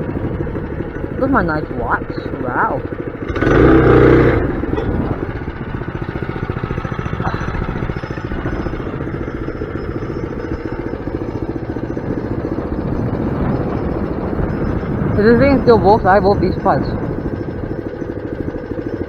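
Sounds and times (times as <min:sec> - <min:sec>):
small engine puttering: 0:00.0 - 0:19.0.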